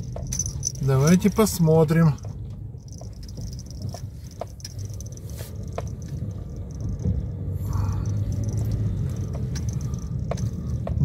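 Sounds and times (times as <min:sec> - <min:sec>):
small clicks and rattles: 0:00.0 - 0:07.2, 0:08.0 - 0:10.6
car engine and tyres rumbling: 0:00.0 - 0:11.0.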